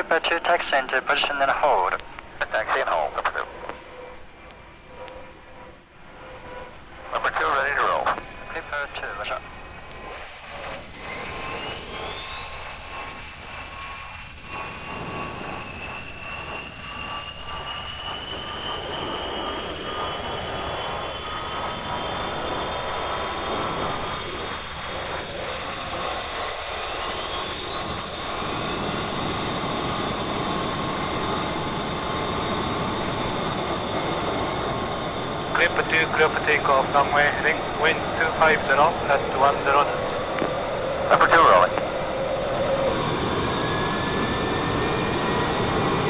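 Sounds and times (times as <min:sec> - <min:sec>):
jet engines whining and roaring: 0:00.0 - 0:46.0.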